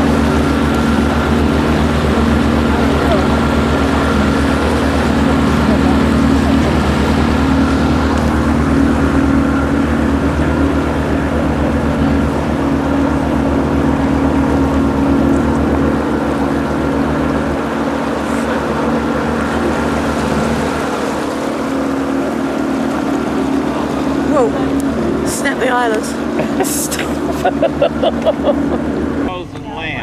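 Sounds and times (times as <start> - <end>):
outboard motor droning: 0.0 - 30.0.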